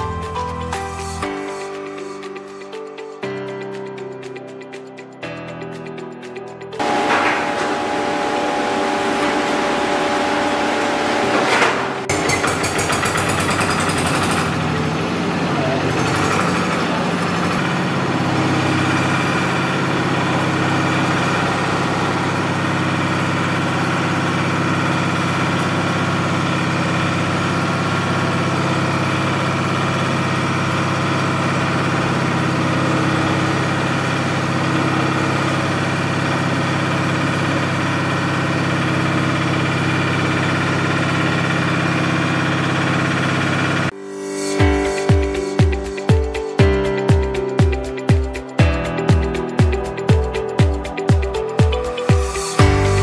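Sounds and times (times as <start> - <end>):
rotary drying machine drone: 6.8 - 53.0.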